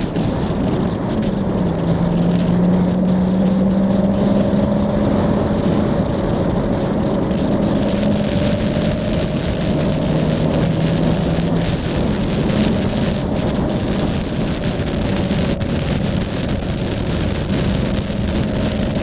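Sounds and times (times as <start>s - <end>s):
motorcycle engine running: 0.0s - 19.0s
wind rush on microphone: 0.0s - 19.0s.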